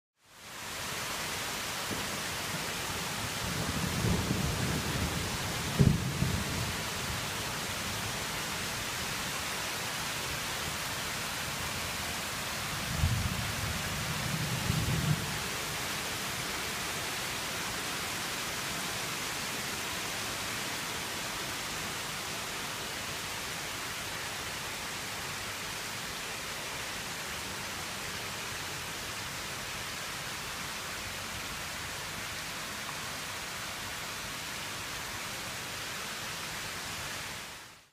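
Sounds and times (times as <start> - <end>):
rain falling steadily: 0.2 - 37.9.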